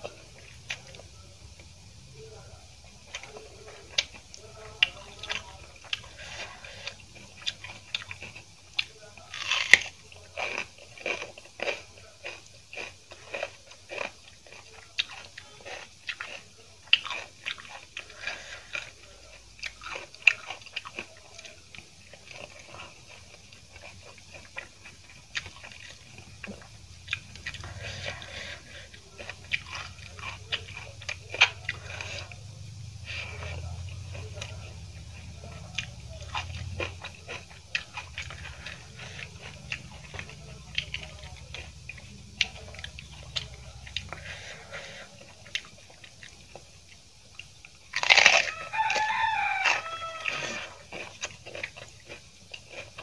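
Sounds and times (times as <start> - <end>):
crunchy chewing: 0.0 - 53.0.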